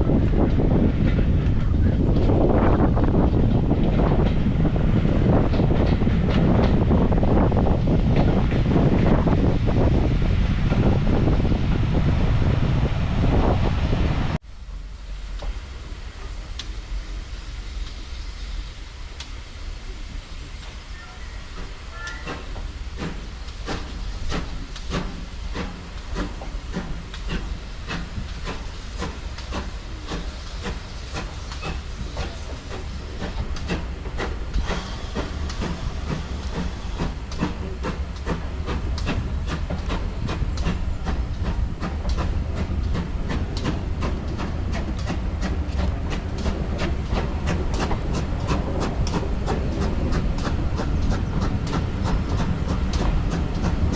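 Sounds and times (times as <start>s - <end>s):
steam train chuffing beats: 0.0s - 14.0s, 14.6s - 53.9s
steam hiss: 0.0s - 53.9s.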